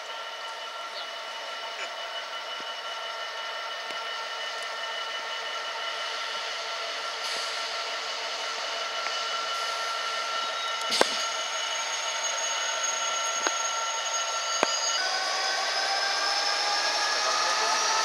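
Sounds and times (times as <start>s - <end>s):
diesel locomotive droning: 0.0s - 18.0s.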